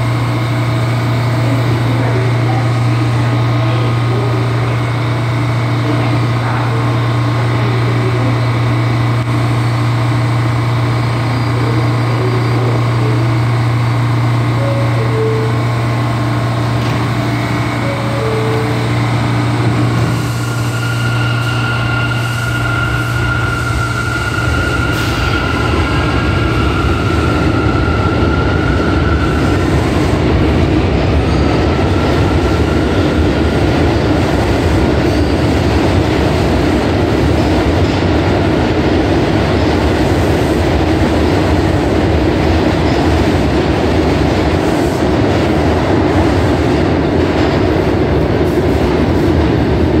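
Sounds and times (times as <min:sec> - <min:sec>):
wheels rumbling on rail: 0:00.0 - 0:50.0.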